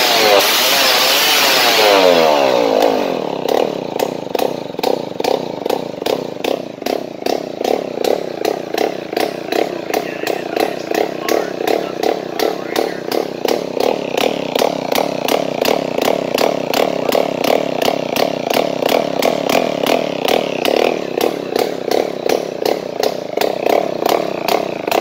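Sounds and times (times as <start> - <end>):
two-stroke mower engine buzzing: 0.0 - 25.0.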